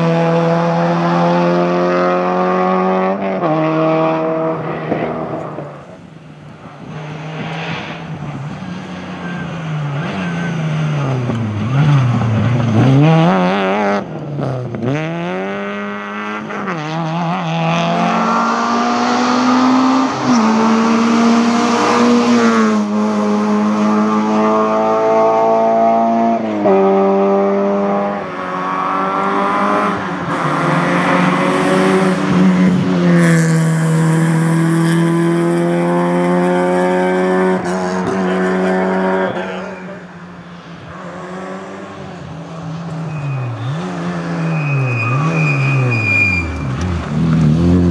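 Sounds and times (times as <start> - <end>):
rally car engines revving past: 0.0 - 47.9.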